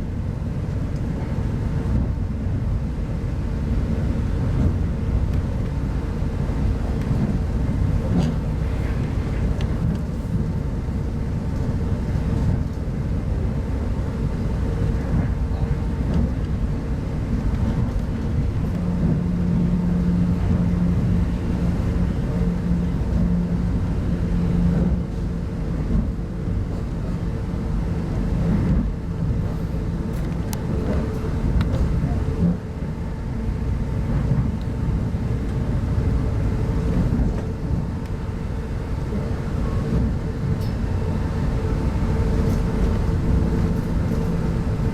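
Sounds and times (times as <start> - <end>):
train coach running rumble: 0.0 - 44.9.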